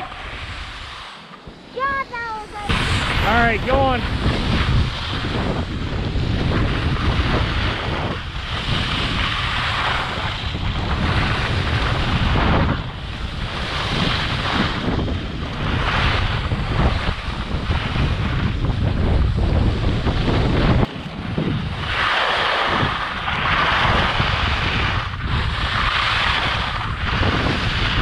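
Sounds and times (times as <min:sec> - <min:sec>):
skis scraping across snow: 0:00.0 - 0:18.4, 0:21.8 - 0:28.0
wind buffeting microphone: 0:00.0 - 0:28.0.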